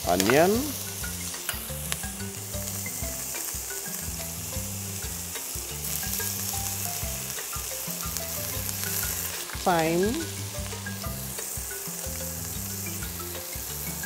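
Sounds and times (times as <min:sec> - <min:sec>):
garlic and pepper sizzling in oil: 0:00.0 - 0:14.0.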